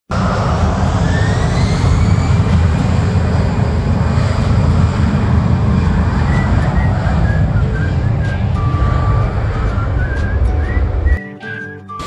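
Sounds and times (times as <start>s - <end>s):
faint high engine whine: 0.1s - 11.2s
jet engine rumble: 0.1s - 11.2s.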